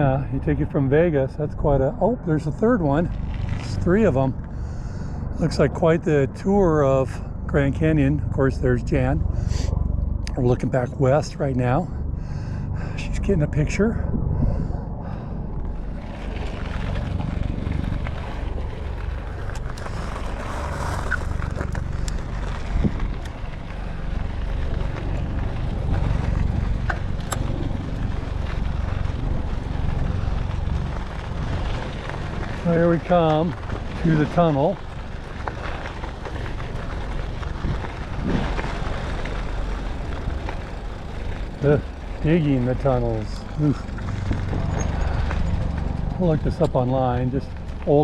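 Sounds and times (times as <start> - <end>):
bicycle tyres rolling on gravel: 0.0 - 48.0
wind buffeting microphone: 0.0 - 48.0.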